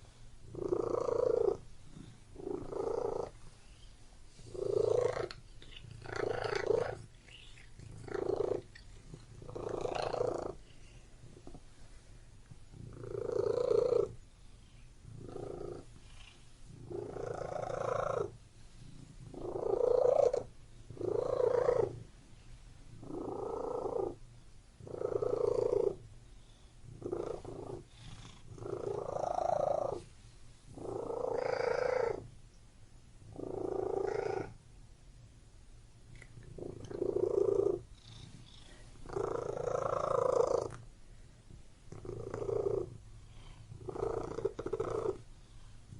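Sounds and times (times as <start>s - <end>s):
cat purring: 0.0s - 24.2s, 24.8s - 30.1s, 30.7s - 32.4s, 33.2s - 34.6s, 36.1s - 40.9s, 41.9s - 45.9s.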